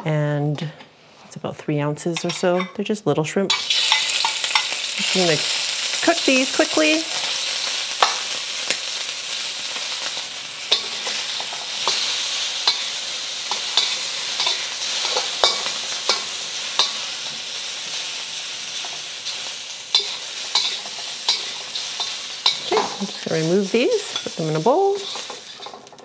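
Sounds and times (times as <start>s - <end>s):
shrimp sizzling in hot oil: 3.5s - 26.0s
utensil scraping a wok: 3.5s - 26.0s.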